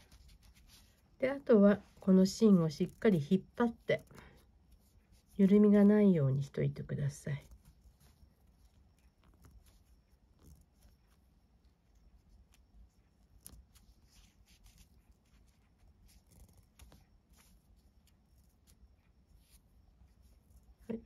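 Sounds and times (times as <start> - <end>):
paracord rustling and ticking: 0.0 - 5.9, 7.2 - 21.0.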